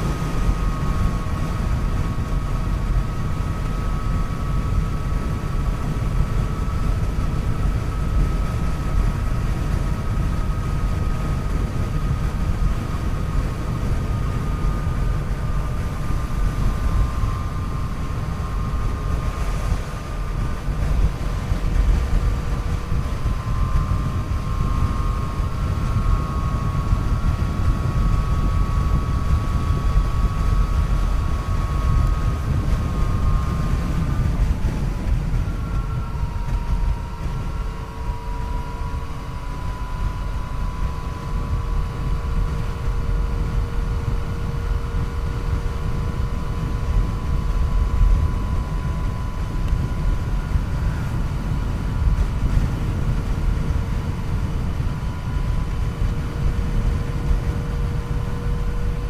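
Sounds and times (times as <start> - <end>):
high whine: 0.0 - 59.0
wind rush on microphone: 0.0 - 59.0.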